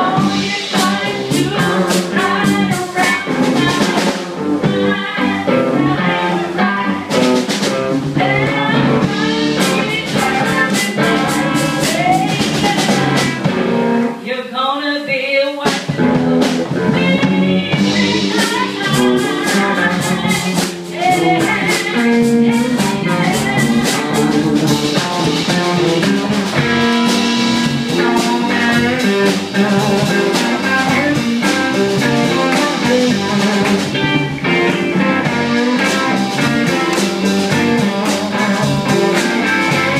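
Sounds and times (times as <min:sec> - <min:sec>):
woman singing into a microphone: 0:00.0 - 0:13.5, 0:14.2 - 0:16.1, 0:16.7 - 0:26.2, 0:27.6 - 0:39.9
drum kit: 0:00.0 - 0:14.2, 0:15.6 - 0:39.9
electric guitars: 0:00.0 - 0:14.2, 0:15.6 - 0:39.9.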